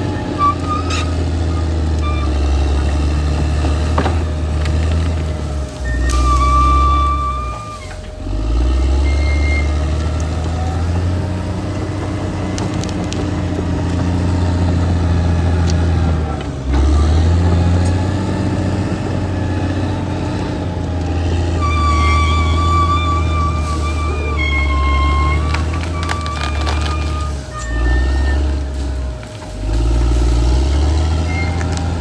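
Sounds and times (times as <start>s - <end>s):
bulldozer diesel engine droning: 0.0s - 32.0s.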